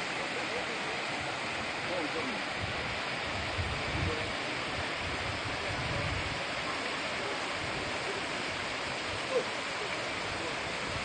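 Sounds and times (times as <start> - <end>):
waterfall pouring into pool: 0.0 - 11.0.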